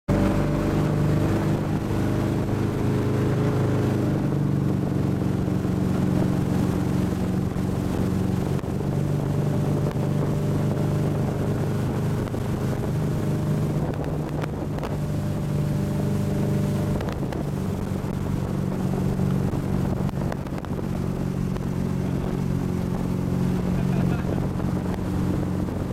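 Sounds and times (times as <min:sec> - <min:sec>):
motorboat engine running: 0:00.1 - 0:25.9
wind buffeting microphone: 0:00.1 - 0:25.9.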